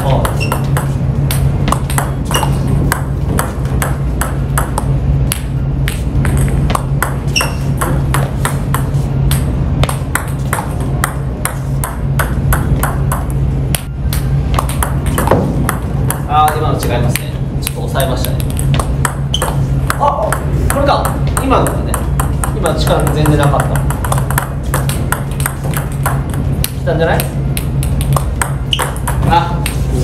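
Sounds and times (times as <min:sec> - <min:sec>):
table tennis balls clicking: 0:00.0 - 0:29.9.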